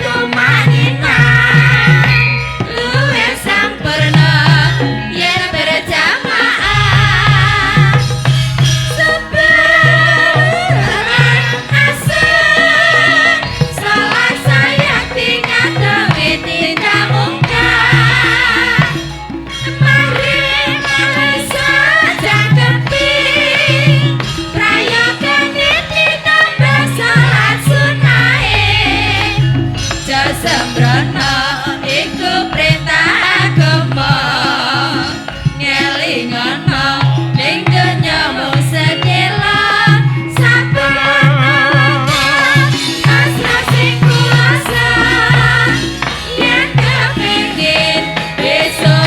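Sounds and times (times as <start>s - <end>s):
gamelan music: 0.0s - 49.0s
hand drumming: 0.0s - 49.0s
wavering high melody: 0.0s - 49.0s.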